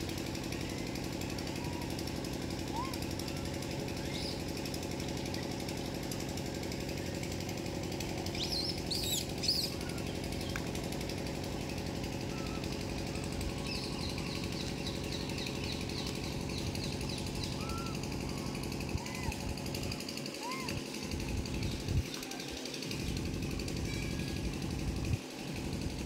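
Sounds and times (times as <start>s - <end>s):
motor running with fast pulse: 0.0s - 26.0s.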